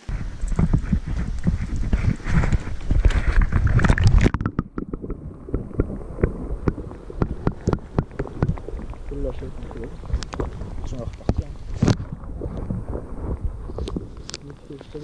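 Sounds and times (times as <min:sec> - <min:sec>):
muffled underwater clicks and knocks: 0:00.0 - 0:15.0
water sloshing: 0:00.0 - 0:15.0
wind on microphone: 0:00.0 - 0:15.0.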